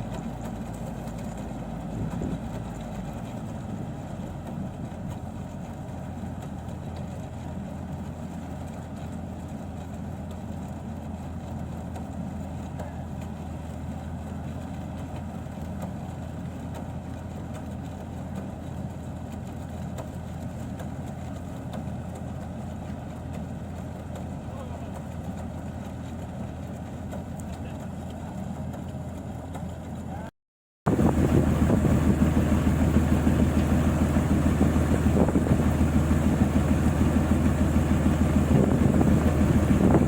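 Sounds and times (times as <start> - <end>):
combine harvester engine droning: 0.0 - 30.3, 30.9 - 40.0.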